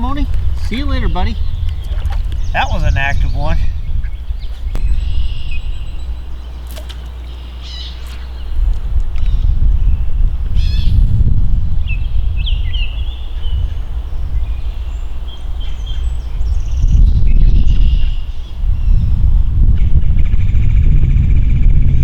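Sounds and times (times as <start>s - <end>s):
small birds chirping: 0.0s - 11.1s, 11.8s - 20.2s
low rumble: 0.0s - 22.0s.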